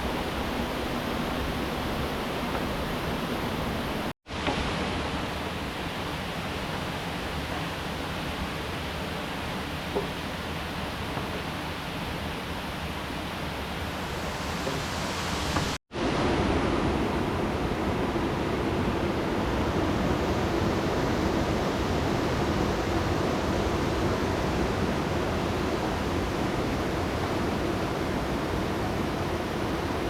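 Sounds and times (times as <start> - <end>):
rushing river water: 0.0 - 30.0.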